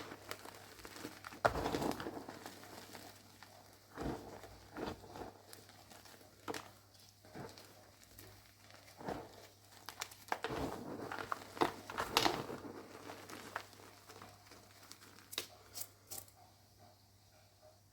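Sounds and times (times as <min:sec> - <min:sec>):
chalk blocks crunching: 0:00.0 - 0:16.2.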